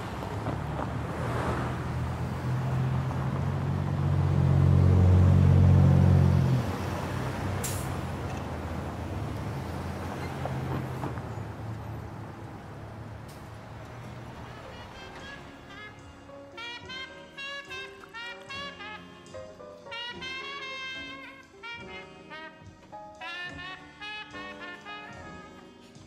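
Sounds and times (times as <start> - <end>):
heavy vehicle engine hum: 0.0 - 22.4
city street traffic: 0.0 - 26.0.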